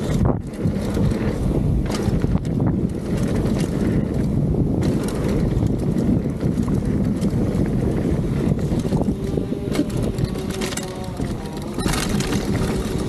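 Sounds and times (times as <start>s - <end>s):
bike clicks and rattles: 0.0s - 13.0s
bike tyres rumbling on dirt: 0.0s - 13.0s
wind buffeting microphone: 0.0s - 13.0s.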